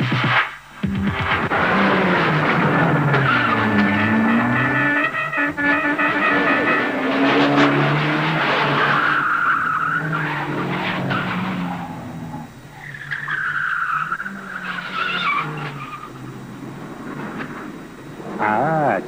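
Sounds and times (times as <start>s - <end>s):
car engines droning: 0.6s - 19.0s
car tyres squealing: 1.0s - 19.0s.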